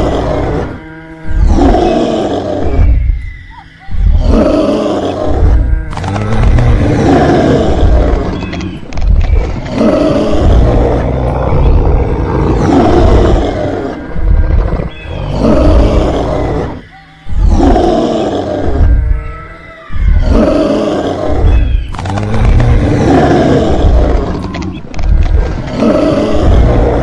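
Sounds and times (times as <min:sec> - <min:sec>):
dinosaur roars: 0:00.0 - 0:03.1, 0:04.0 - 0:27.0.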